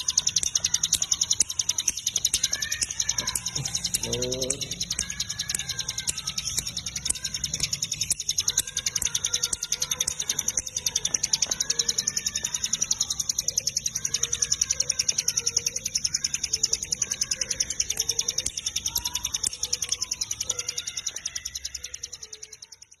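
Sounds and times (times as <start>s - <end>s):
bird calling rapid ticking notes: 0.0s - 23.0s.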